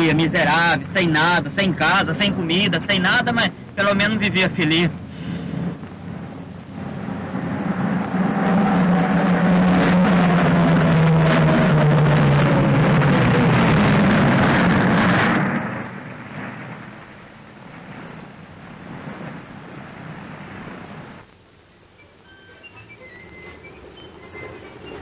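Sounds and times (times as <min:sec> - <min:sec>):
propeller plane engines droning: 0:00.0 - 0:25.0.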